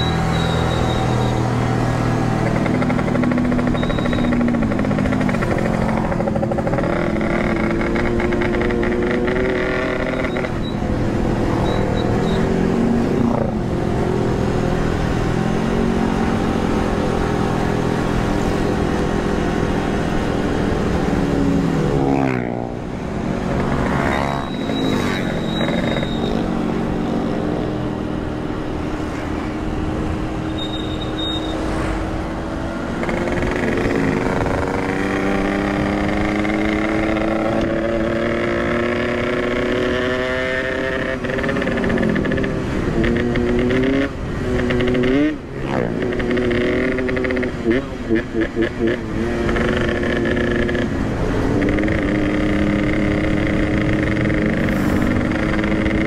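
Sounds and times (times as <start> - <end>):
two-stroke motorcycle engine revving: 0.0 - 29.3, 30.4 - 56.0.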